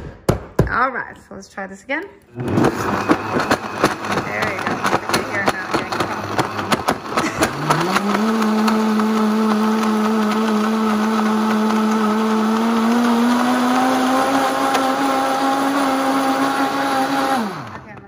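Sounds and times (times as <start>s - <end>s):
blender motor whirring: 2.3s - 18.0s
ice chunks knocking in blender: 2.5s - 18.0s.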